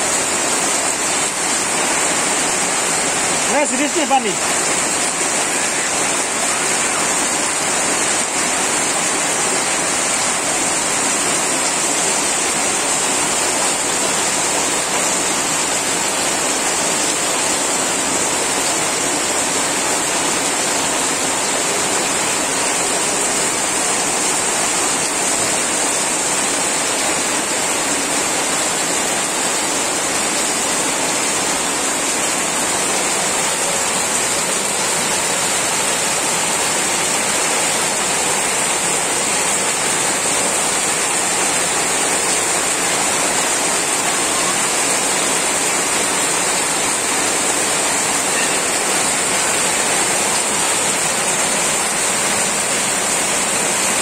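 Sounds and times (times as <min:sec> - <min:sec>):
torrential rain pouring: 0:00.0 - 0:54.0.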